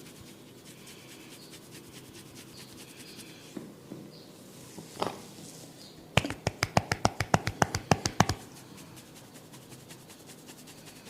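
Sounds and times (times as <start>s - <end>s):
hands rubbing head and hair: 0.0s - 3.6s, 4.4s - 11.0s
soft contact sound: 0.0s - 3.6s, 4.2s - 6.5s, 7.1s - 11.0s.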